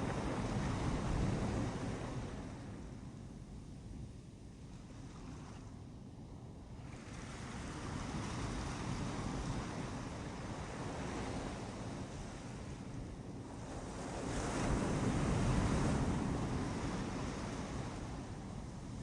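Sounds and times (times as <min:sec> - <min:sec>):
sea waves on a beach: 0:00.0 - 0:03.2, 0:06.6 - 0:19.0.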